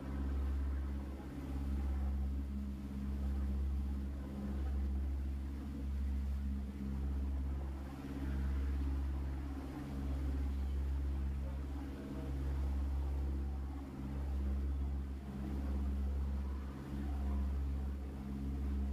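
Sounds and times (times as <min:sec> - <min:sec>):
boat engine droning: 0:00.0 - 0:18.9.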